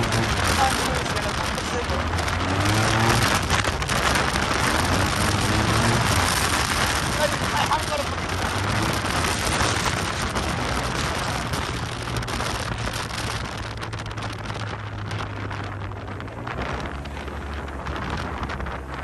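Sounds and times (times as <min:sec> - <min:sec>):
scooter engine hum: 0:00.0 - 0:19.0
wind rushing over microphone: 0:00.0 - 0:19.0.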